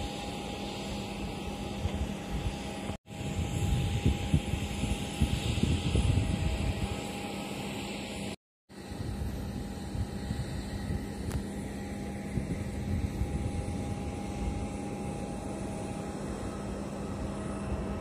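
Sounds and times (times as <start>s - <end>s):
jet aircraft engine: 0.0s - 18.0s
steady hum: 0.0s - 18.0s.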